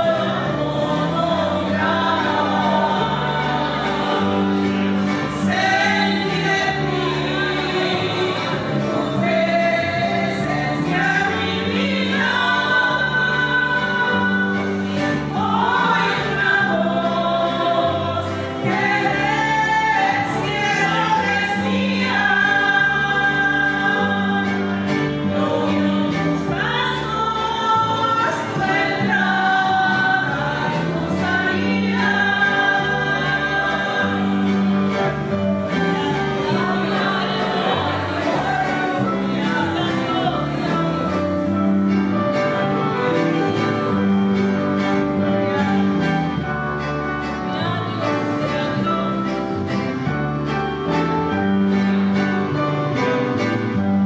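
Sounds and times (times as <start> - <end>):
women singing a hymn: 0.0 - 53.8
instrumental accompaniment with bass: 0.0 - 54.0.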